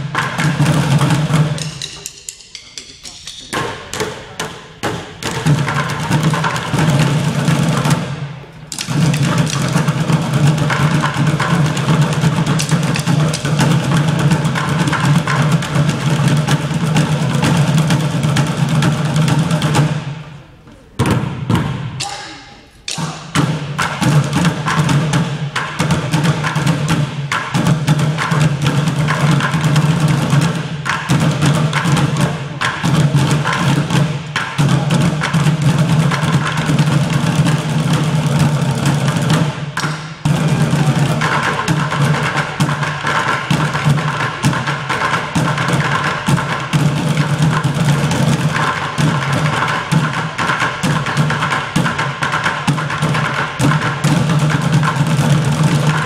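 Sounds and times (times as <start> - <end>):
drum and percussion strokes: 0.0 - 56.0.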